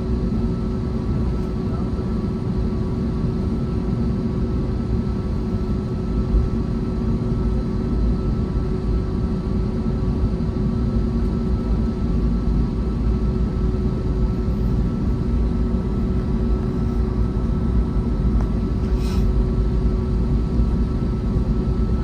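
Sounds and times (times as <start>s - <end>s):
jet engine cabin hum: 0.0s - 22.0s.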